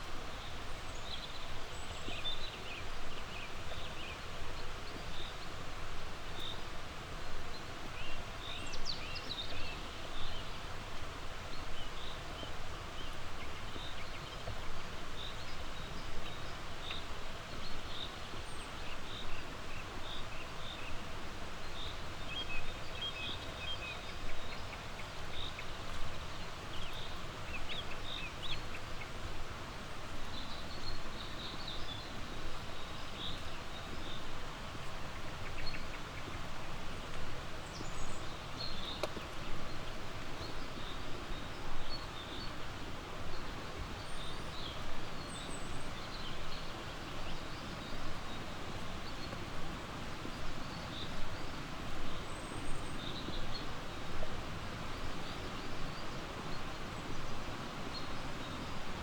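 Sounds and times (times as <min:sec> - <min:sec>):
songbirds chirping: 0:00.2 - 0:59.0.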